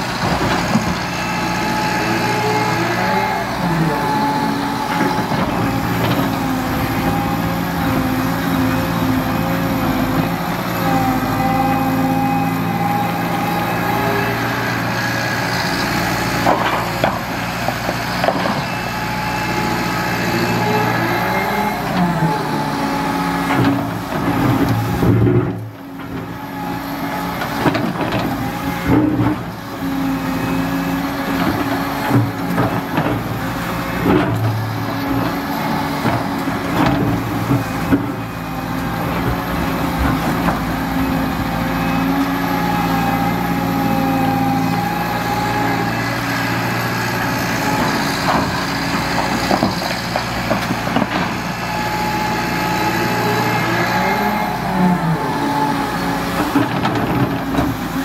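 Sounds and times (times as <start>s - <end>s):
excavator diesel engine: 0.0s - 58.0s
hydraulic whine: 0.0s - 58.0s.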